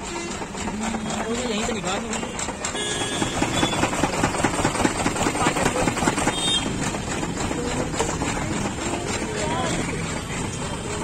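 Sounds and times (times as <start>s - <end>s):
juice crusher running: 0.0s - 11.0s.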